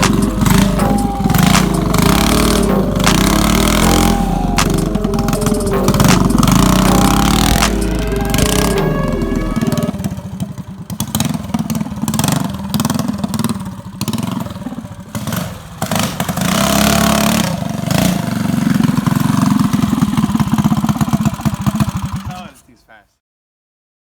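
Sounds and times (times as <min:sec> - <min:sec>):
dirt bike engine revving: 0:00.0 - 0:22.6.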